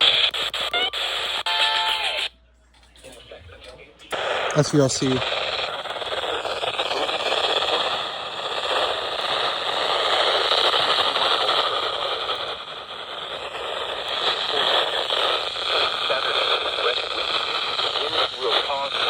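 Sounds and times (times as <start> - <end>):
radio static hiss: 0.0 - 2.3, 3.1 - 19.0.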